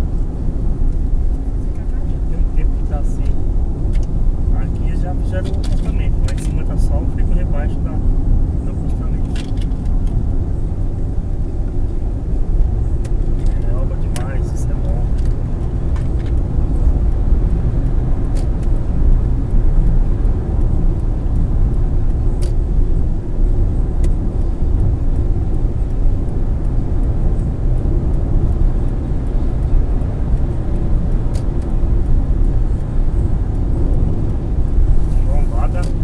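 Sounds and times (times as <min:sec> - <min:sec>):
car interior road rumble: 0:00.0 - 0:36.0.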